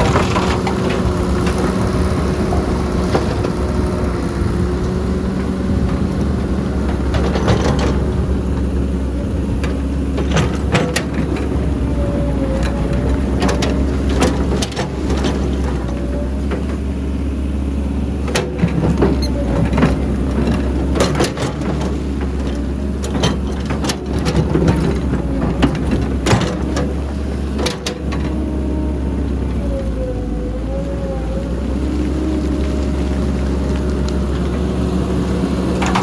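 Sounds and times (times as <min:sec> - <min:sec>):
dirt loading into truck: 0:00.0 - 0:36.0
excavator engine and hydraulics: 0:00.0 - 0:36.0.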